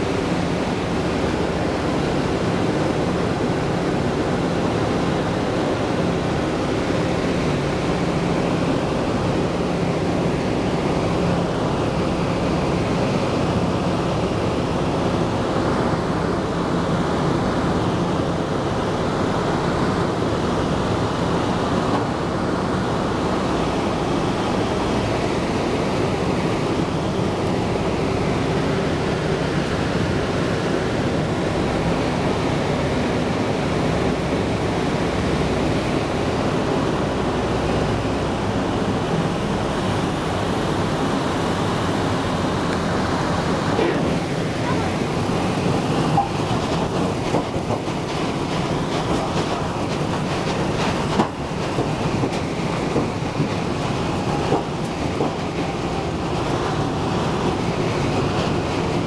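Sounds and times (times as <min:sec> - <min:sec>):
radial aircraft engines droning: 0:00.0 - 0:59.0
rush of airflow: 0:00.0 - 0:59.0.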